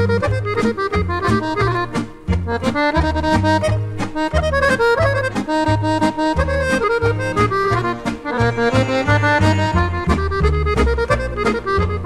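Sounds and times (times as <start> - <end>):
accordion melody: 0.0 - 12.0
bouncing bass line: 0.0 - 12.0.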